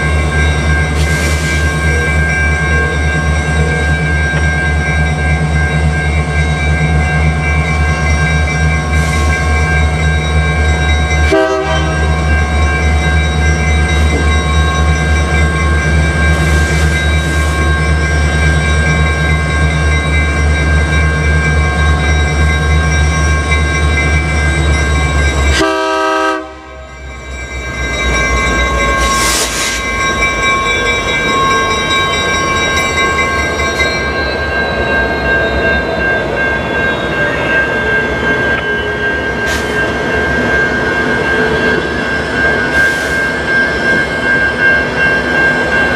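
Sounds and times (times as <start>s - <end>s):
crossing warning bell ringing: 0.0s - 45.9s
diesel locomotives rumbling: 0.0s - 45.9s.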